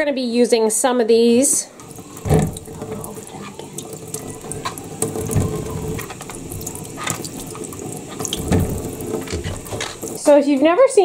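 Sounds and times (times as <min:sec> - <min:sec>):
faucet running into metal sink: 0:01.4 - 0:10.3.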